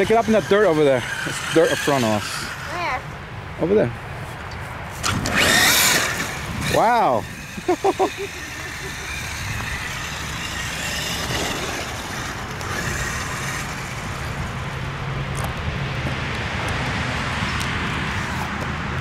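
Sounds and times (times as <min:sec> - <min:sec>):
rc truck motor and tyres: 0:00.0 - 0:03.2, 0:04.4 - 0:19.0.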